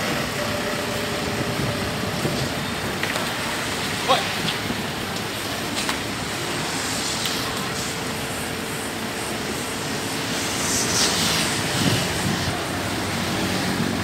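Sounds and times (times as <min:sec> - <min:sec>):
diesel engine running: 0:00.0 - 0:14.0
steady whine: 0:00.0 - 0:14.0.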